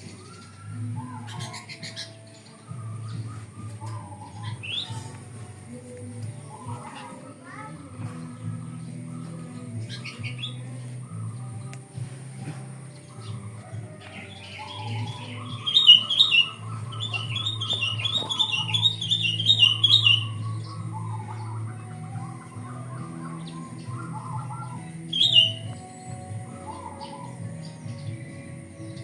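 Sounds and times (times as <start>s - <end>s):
bird chirping phrases: 0.0s - 29.0s
low bird warbling: 0.0s - 29.0s.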